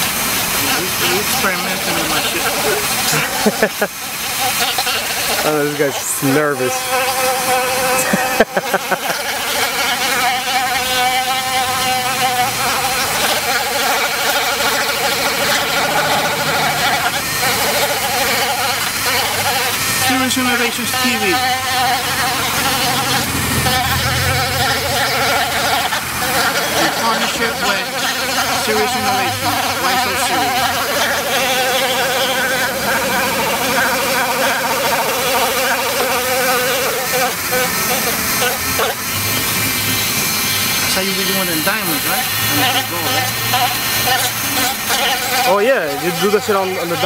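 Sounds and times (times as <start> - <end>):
rotary tool sanding plastic: 0.0 - 47.0.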